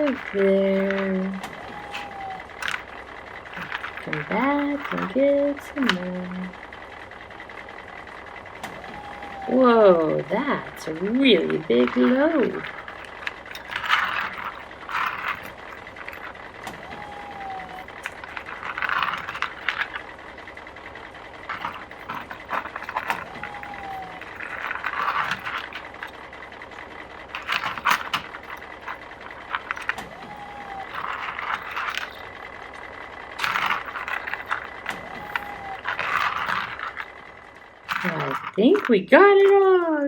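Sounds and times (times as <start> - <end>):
toy parts clicking and rattling: 0.0 - 40.0
toy truck scraping play dough: 0.0 - 40.0.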